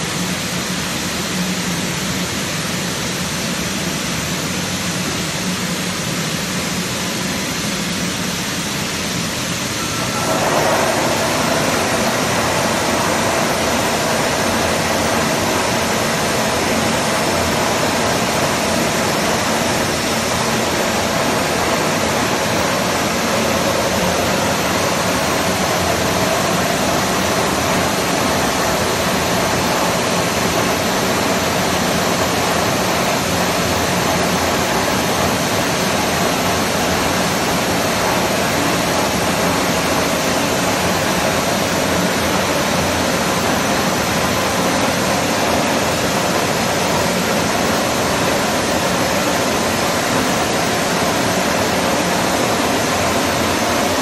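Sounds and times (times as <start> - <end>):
milling machine whirring: 9.3 - 54.0.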